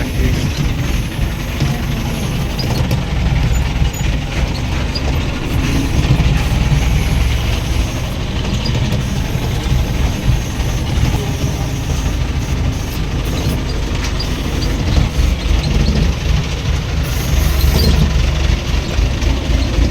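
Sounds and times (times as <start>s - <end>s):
heavy machinery engine rumble: 0.0s - 19.9s
mechanical rattling: 0.0s - 19.9s.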